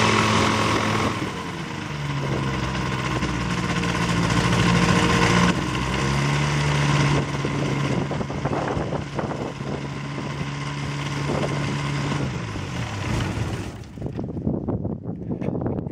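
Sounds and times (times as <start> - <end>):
aircraft engine and propeller: 0.0 - 14.4.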